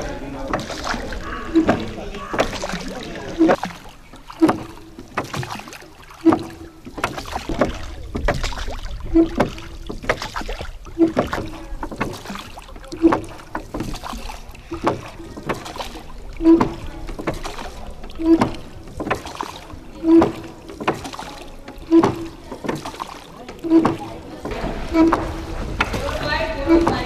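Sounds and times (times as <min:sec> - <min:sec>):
oar splashes: 0:00.0 - 0:27.0
oars creaking: 0:00.0 - 0:27.0.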